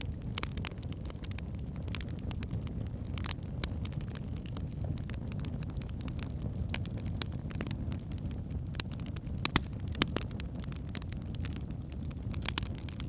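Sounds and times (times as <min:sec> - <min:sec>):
burning logs crackling and popping: 0:00.0 - 0:13.0
low rumble of flames: 0:00.0 - 0:13.0.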